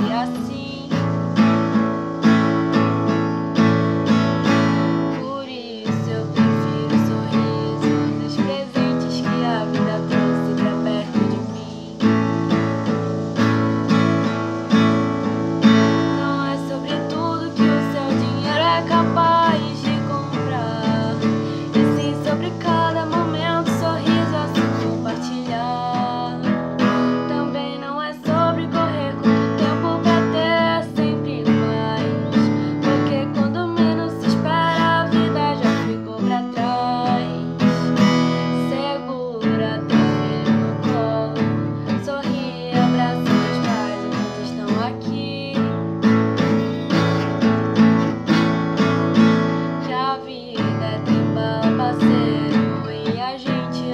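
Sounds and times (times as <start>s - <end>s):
acoustic guitar strumming: 0.0s - 53.9s
person singing: 0.0s - 53.9s.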